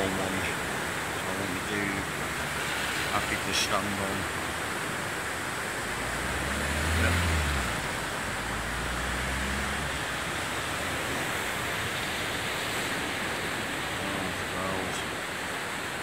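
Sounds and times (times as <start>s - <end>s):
turbulent floodwater rushing: 0.0s - 16.0s.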